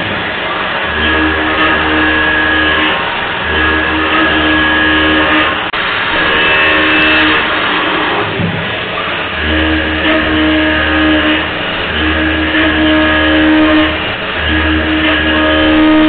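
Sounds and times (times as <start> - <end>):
high whine: 0.0 - 16.0
milling machine cutting drone: 0.0 - 16.0.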